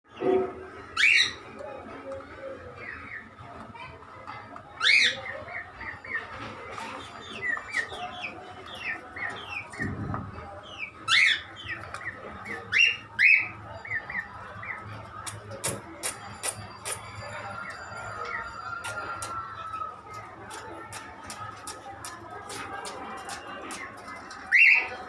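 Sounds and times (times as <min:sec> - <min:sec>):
birds chirping: 0:00.1 - 0:25.0.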